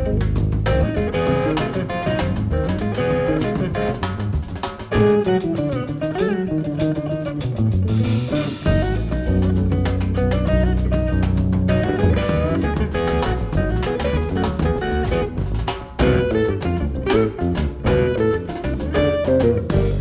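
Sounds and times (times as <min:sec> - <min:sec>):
bass: 0:00.0 - 0:20.0
drum kit: 0:00.0 - 0:20.0
jazz guitar with bent notes: 0:00.0 - 0:20.0.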